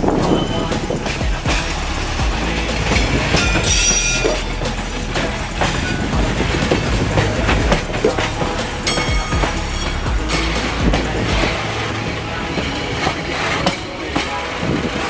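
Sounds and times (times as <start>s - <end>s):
freight train rumble: 0.0s - 15.0s
high wheel squeals: 0.0s - 15.0s
steel wheels clattering over joints: 0.0s - 15.0s.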